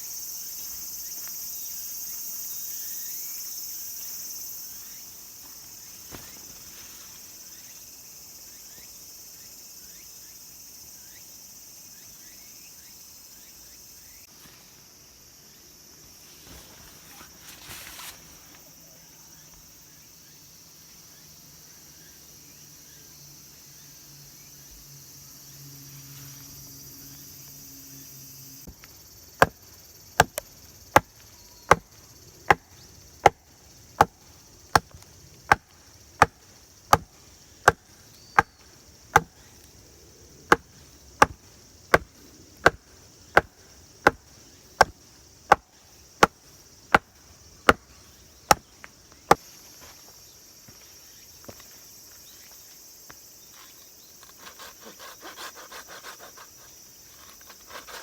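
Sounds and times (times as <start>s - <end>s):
high-pitched hiss: 0.0s - 58.0s.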